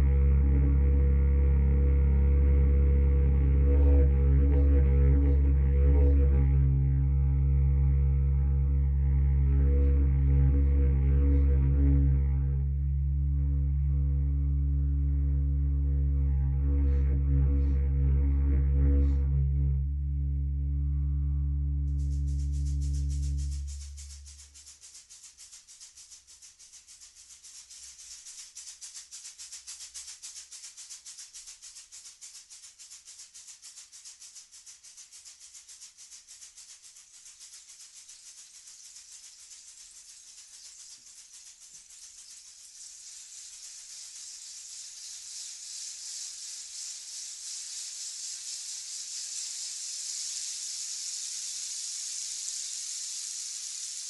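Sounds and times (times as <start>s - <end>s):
rainstick rattling hiss: 0.0s - 11.6s, 21.8s - 54.0s.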